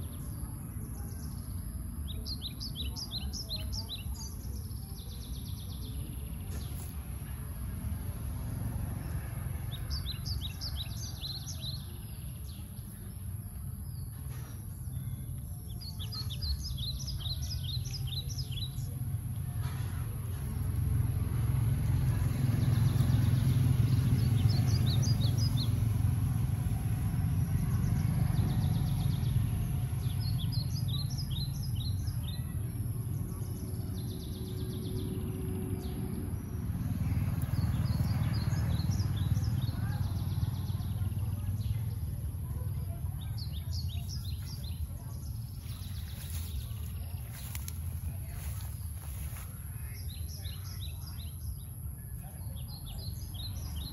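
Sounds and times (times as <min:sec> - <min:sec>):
small birds chirping: 0:00.0 - 0:53.9
steady low rumble: 0:00.0 - 0:53.9.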